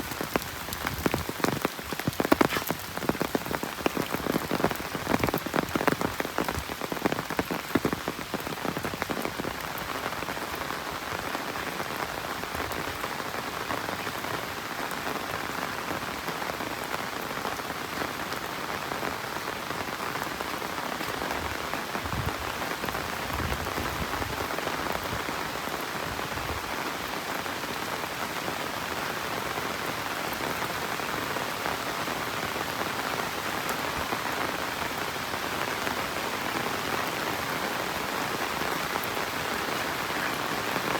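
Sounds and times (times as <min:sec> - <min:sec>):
rain on ground and foliage: 0:00.0 - 0:40.9.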